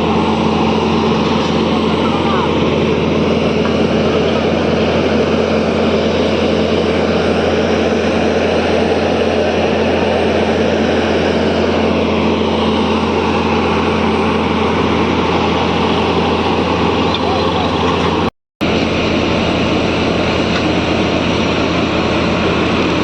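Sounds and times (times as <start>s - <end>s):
motor droning: 0.0s - 23.0s.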